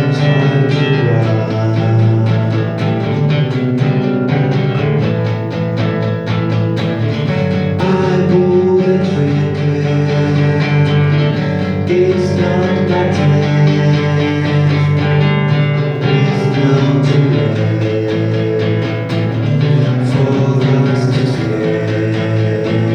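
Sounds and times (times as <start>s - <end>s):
person singing: 0.0s - 5.4s, 6.8s - 22.9s
guitar strummed and picked: 0.0s - 22.9s.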